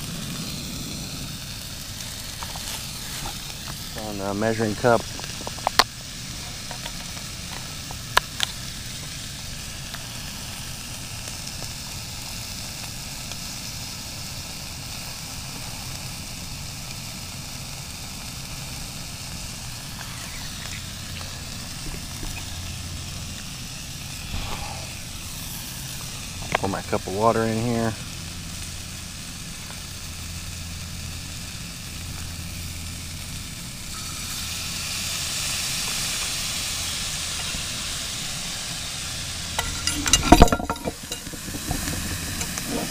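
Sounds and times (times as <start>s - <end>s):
sausages sizzling in a frying pan: 0.0s - 42.9s.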